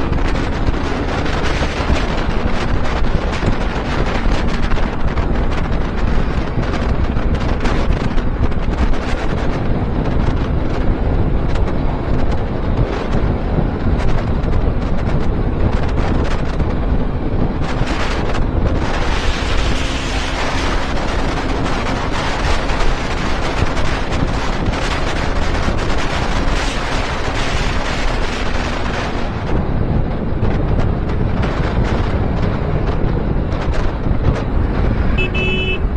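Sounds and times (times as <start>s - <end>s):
motorcycle engine running: 0.0s - 35.9s
wind buffeting microphone: 0.0s - 35.9s.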